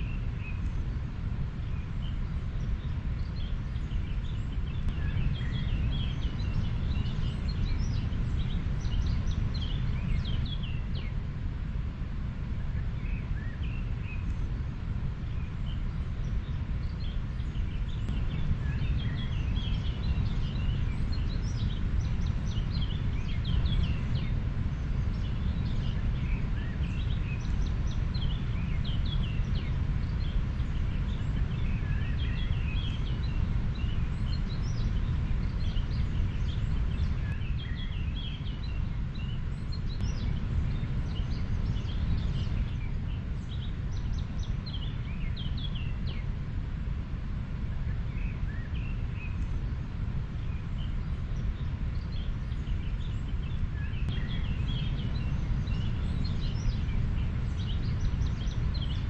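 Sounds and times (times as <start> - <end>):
small birds chirping: 0.0 - 11.2, 12.4 - 59.0.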